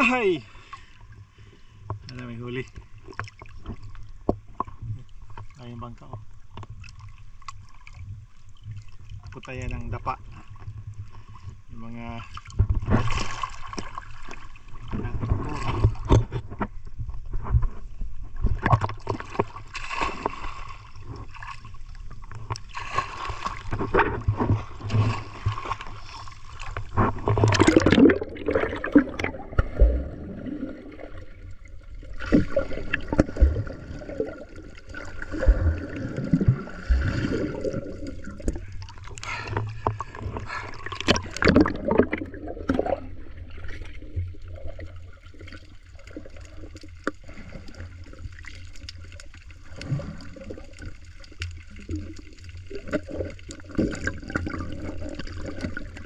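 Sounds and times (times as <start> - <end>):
seawater sloshing and gurgling: 0.0 - 56.0.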